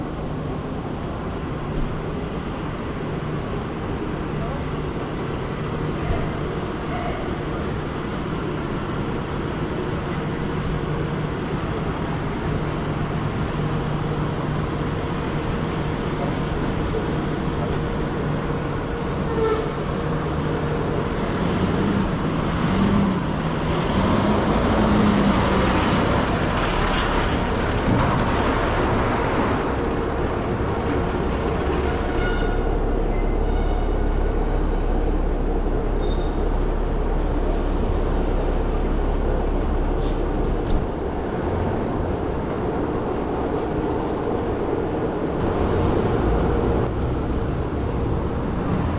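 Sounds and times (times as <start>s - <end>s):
low engine drone: 0.0s - 48.9s
rumble of traffic: 0.0s - 48.9s.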